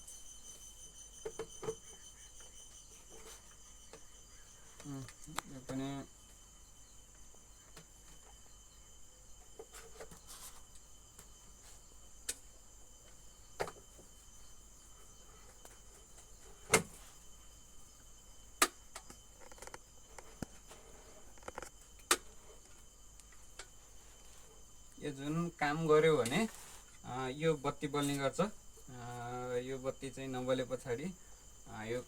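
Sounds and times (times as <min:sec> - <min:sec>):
faint high-pitched hiss: 0:00.0 - 0:32.0.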